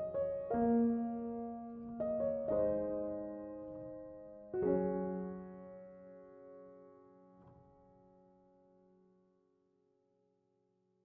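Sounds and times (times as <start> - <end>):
soft piano chord: 0.0 - 9.1.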